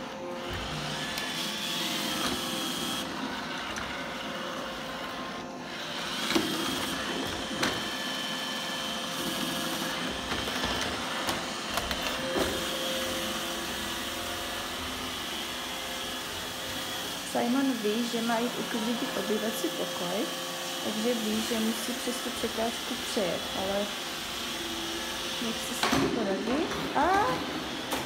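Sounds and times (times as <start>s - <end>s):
robot vacuum humming and whining: 0.0s - 28.0s.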